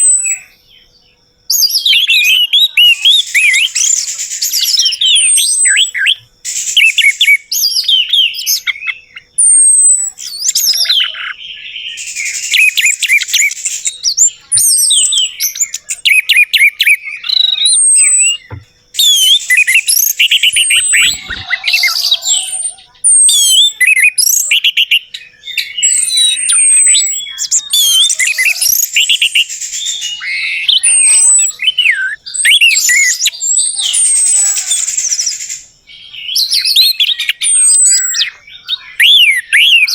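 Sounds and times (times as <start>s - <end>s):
thrush singing whistled song: 0.0s - 39.9s.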